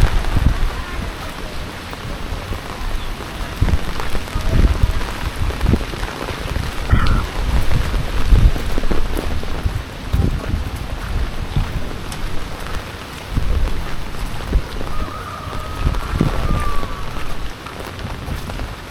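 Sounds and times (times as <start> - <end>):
deep rumbles: 0.0 - 18.8
heavy rain hissing: 0.0 - 18.9.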